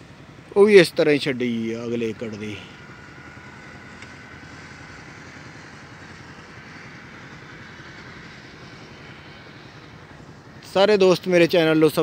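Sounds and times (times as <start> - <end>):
engine humming and rumbling: 0.0 - 12.0.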